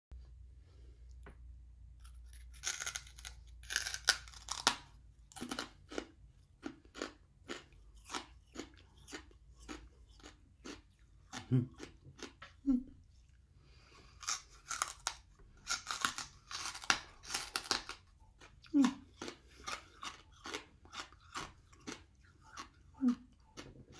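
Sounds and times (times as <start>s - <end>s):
coal being bitten and chewed: 2.0s - 23.9s.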